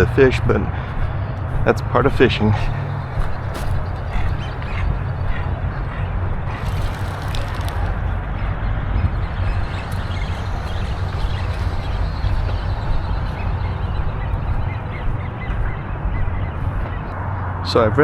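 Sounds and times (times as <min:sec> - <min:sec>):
steady low rumble: 0:00.0 - 0:17.7
waterfowl calling: 0:01.6 - 0:17.2.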